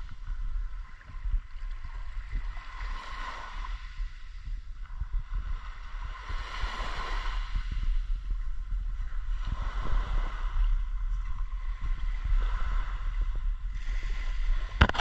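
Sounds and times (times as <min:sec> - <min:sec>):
small waves on pebbly shore: 0:00.0 - 0:04.4, 0:05.3 - 0:08.1, 0:09.0 - 0:15.0
wind rumble on microphone: 0:00.0 - 0:15.0.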